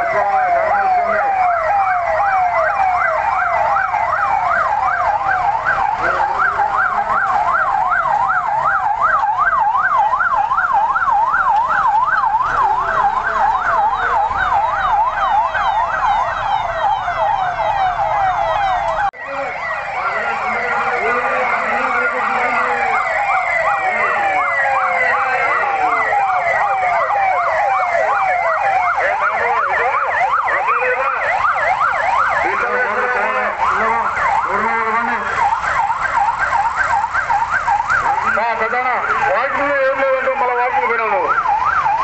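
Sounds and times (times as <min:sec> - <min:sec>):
police siren yelping: 0:00.0 - 0:42.0
slower falling siren: 0:00.0 - 0:42.0.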